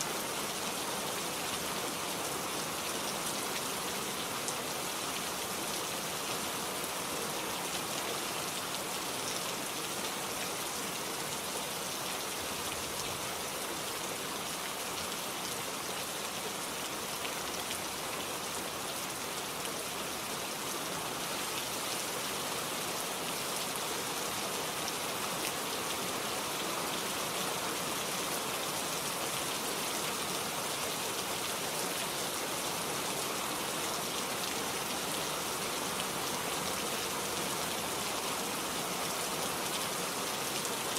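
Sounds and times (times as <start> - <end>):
rain patter on leaves: 0.0 - 40.9.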